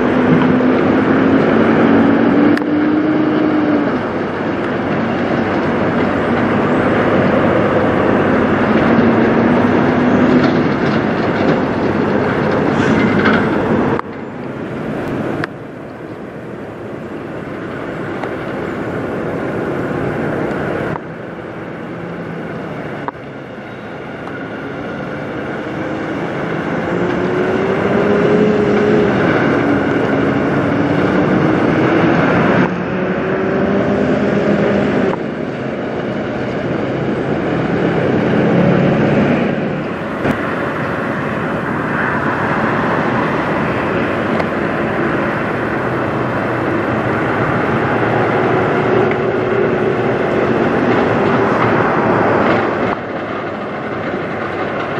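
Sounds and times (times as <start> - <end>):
road and trailer rumble: 0.0 - 54.9
truck diesel engines accelerating: 0.0 - 54.9.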